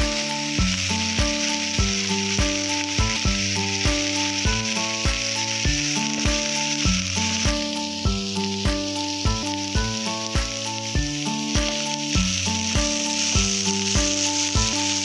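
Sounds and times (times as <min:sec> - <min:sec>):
background music with a beat: 0:00.0 - 0:15.0
rice sizzling in a pan: 0:00.0 - 0:15.0.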